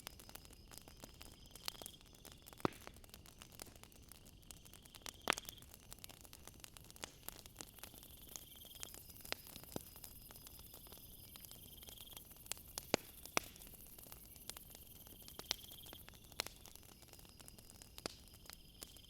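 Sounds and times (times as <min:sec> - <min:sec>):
insects trilling: 0:00.0 - 0:19.0
wood fire crackling and popping: 0:00.0 - 0:19.0.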